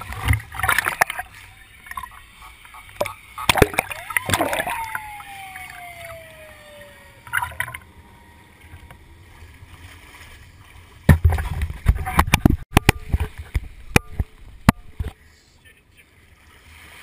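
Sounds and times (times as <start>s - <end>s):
water splashing and lapping: 0.0s - 15.3s, 15.9s - 17.0s.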